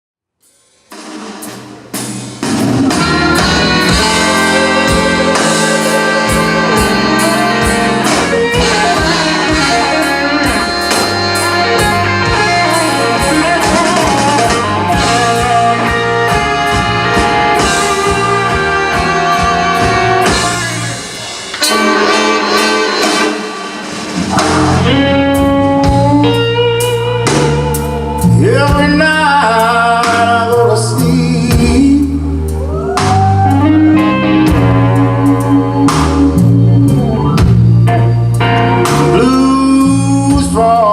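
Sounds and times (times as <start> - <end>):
blues band playing: 0.4 - 40.9
drum kit: 0.4 - 40.9
horn section: 1.4 - 40.9
electric guitar: 2.0 - 40.9.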